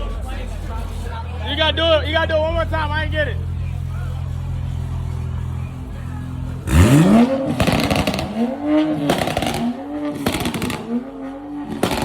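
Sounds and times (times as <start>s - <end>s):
car engine idling: 0.0s - 12.0s
car engine revving: 0.0s - 12.0s.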